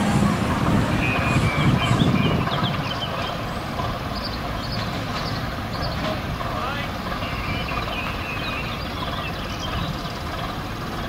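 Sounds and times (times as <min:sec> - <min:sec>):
diesel locomotive engine rumbling: 0:00.0 - 0:11.0.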